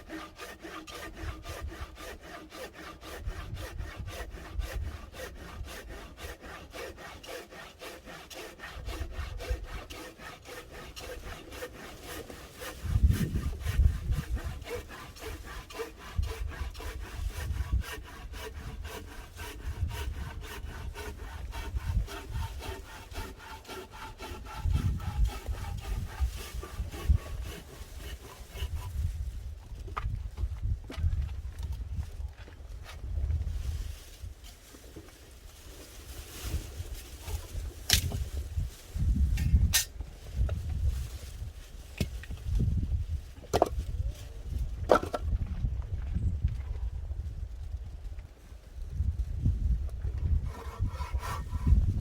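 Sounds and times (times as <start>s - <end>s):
saw cutting firewood: 0.0s - 30.1s, 32.8s - 45.4s, 50.0s - 52.0s.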